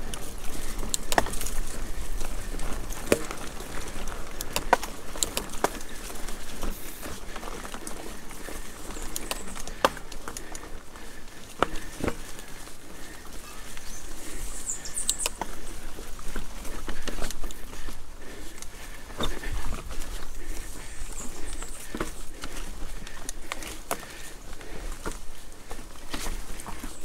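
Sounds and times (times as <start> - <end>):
bike rattling over rocks: 0.0 - 27.0.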